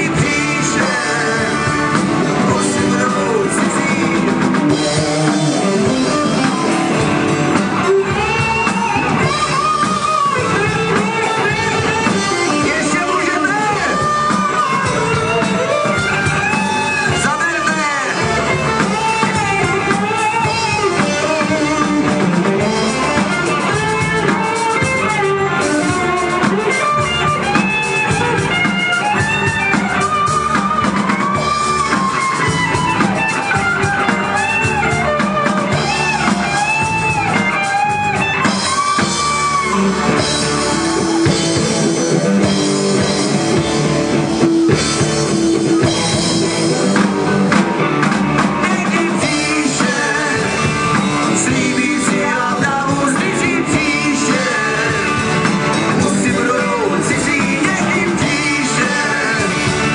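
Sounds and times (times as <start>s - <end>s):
lead guitar bending notes: 0.0s - 59.9s
live rock band playing: 0.0s - 59.9s.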